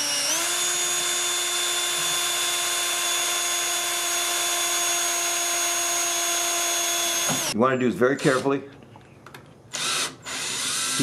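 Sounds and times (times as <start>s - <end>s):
drill boring into metal: 0.0s - 7.6s, 9.7s - 11.0s.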